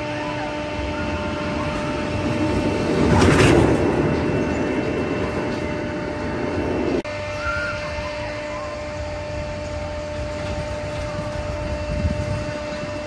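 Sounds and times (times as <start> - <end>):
roller coaster rumbling past: 0.0 - 13.0.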